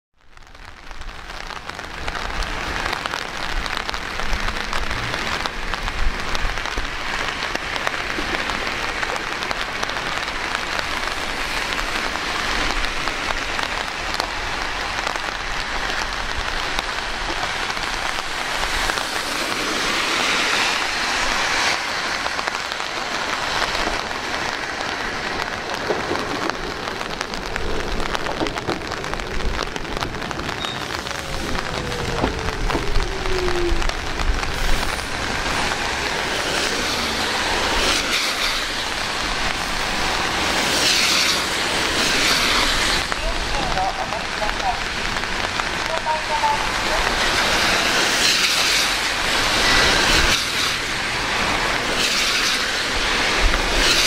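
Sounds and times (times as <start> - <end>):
steady rain falling: 0.2 - 54.0.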